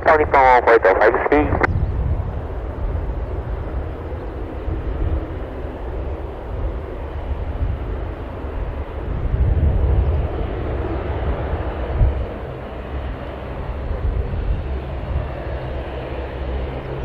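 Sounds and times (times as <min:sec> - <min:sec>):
jet engine rumble: 0:00.0 - 0:17.0
wind buffeting microphone: 0:01.1 - 0:17.0.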